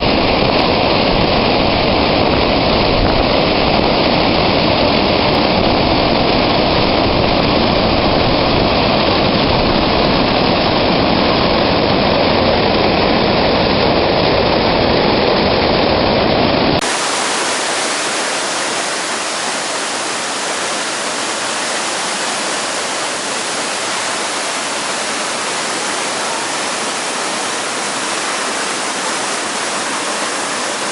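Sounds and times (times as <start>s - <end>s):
loud rush of floodwater: 0.0s - 30.9s.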